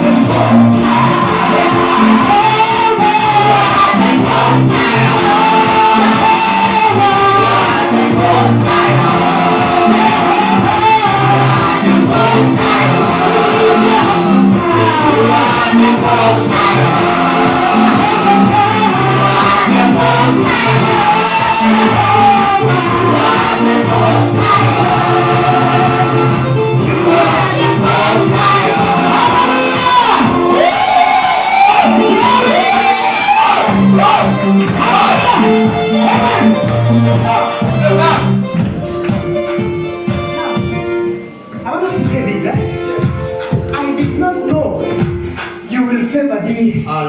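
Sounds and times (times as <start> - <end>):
band with bass line: 0.0 - 41.1
congregation singing: 0.0 - 47.0
gospel worship music: 0.0 - 47.0.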